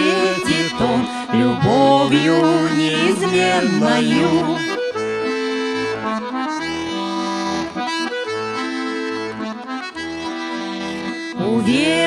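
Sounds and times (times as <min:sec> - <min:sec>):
accordion playing: 0:00.0 - 0:12.0.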